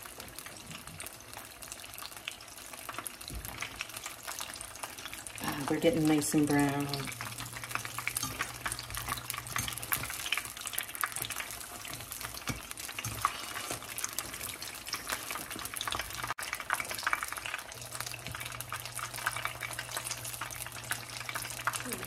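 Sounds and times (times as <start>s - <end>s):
wontons sizzling in oil: 0.0s - 22.0s.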